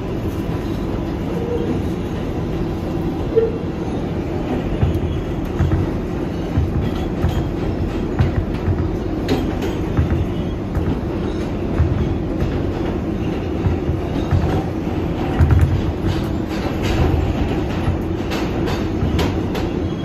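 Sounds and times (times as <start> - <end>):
subway train rumble and hum: 0.0 - 20.0
wheels clacking on track: 0.0 - 20.0.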